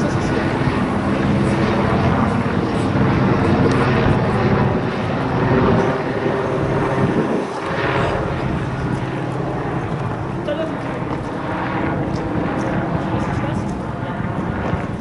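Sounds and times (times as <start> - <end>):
helicopter rotor and engine drone: 0.0 - 15.0.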